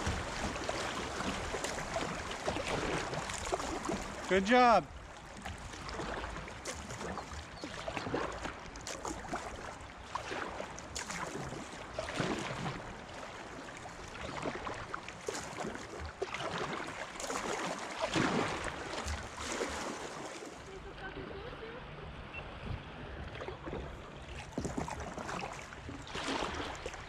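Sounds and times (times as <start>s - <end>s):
river water lapping against hull: 0.0s - 27.0s.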